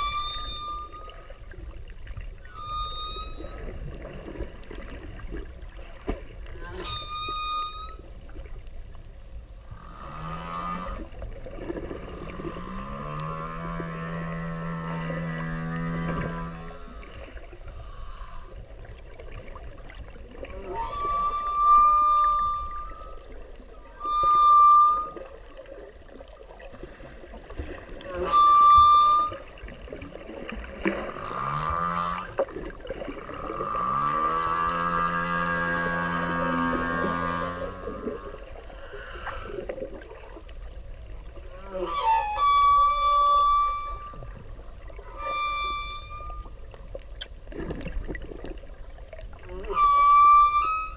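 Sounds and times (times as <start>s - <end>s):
whale calls: 0.0s - 8.5s, 9.7s - 40.4s, 41.2s - 47.4s, 49.1s - 50.9s.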